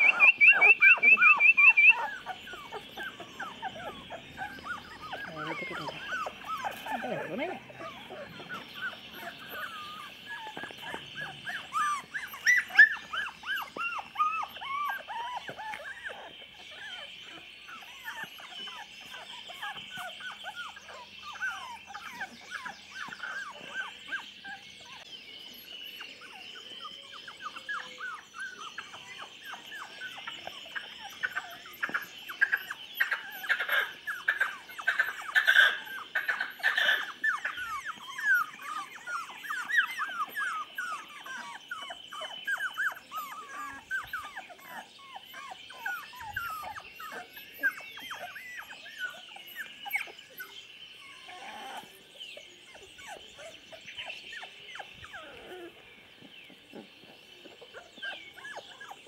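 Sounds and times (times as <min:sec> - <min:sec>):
puppies whimpering and squealing: 0:00.0 - 0:59.0.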